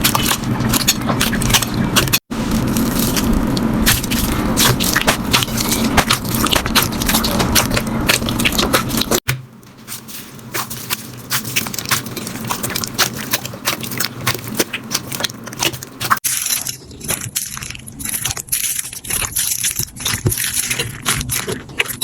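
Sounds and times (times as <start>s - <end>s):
slime squished crackling: 0.0s - 9.2s, 10.4s - 22.0s.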